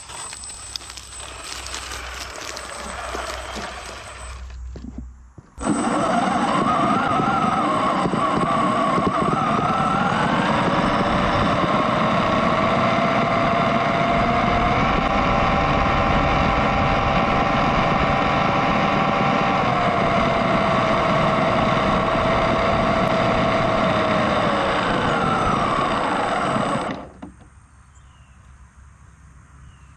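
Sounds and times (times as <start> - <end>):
steady very high whine: 0.0 - 27.5
electric motor and gears whining: 0.0 - 27.6.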